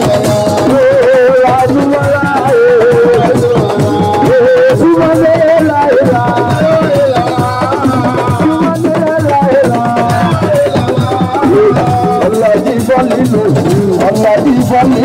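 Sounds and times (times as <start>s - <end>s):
hand drums and percussion: 0.0s - 15.0s
person singing with vibrato: 0.0s - 15.0s.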